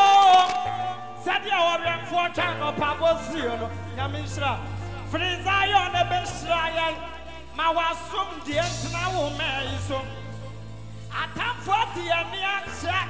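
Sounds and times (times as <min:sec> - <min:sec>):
man singing with wavering voice: 0:00.0 - 0:10.5, 0:11.1 - 0:13.0
band with keyboard and bass: 0:00.0 - 0:13.0.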